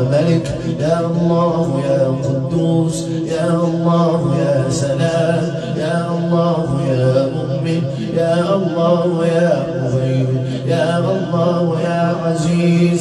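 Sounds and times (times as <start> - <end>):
man chanting: 0.0 - 13.0
steady low drone: 0.0 - 13.0.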